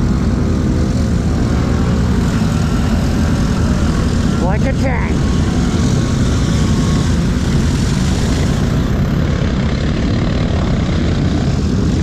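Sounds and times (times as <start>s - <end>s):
atv engine rumbling: 0.0s - 12.0s.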